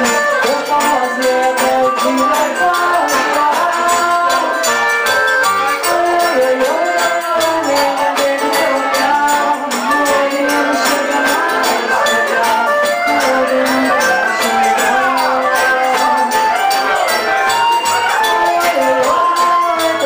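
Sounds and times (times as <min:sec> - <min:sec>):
accordion: 0:00.0 - 0:20.0
acoustic guitar: 0:00.0 - 0:20.0
drum and hand percussion: 0:00.0 - 0:20.0.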